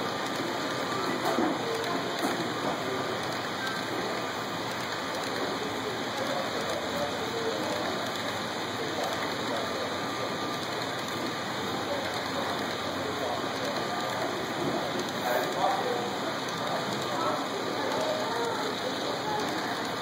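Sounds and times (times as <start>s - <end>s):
model train wheels rolling: 0.0s - 20.0s.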